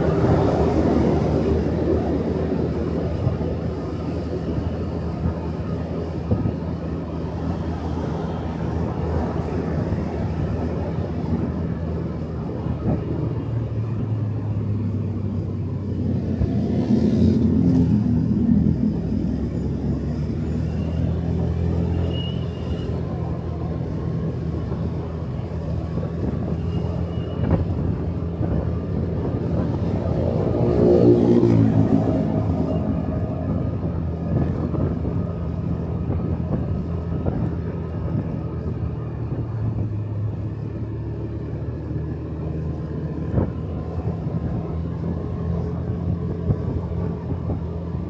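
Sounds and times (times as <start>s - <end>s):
road and wind noise: 0.0s - 48.0s.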